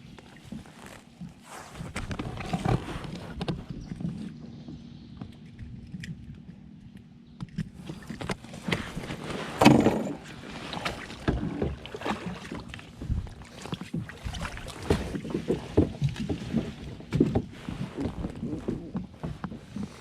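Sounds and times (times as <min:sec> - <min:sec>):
kayak gear knocking and scraping: 0:00.0 - 0:06.6, 0:07.3 - 0:20.0.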